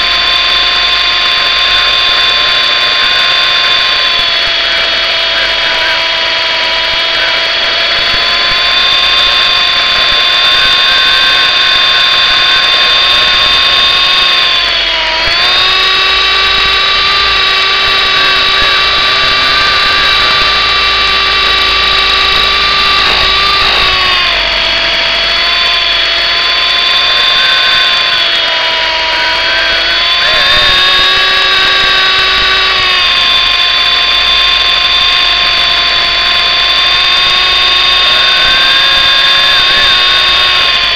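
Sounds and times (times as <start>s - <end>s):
toy helicopter rotor whine: 0.0s - 40.9s.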